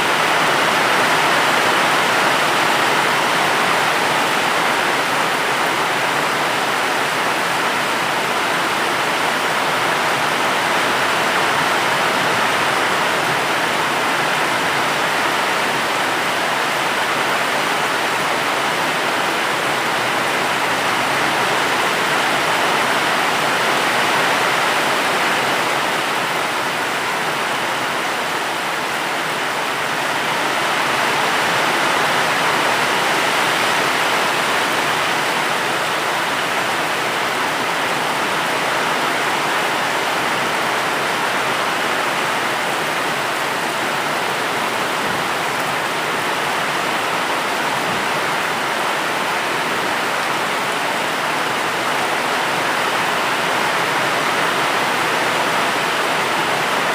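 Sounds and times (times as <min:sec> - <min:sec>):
dense rain hiss: 0:00.0 - 0:56.9.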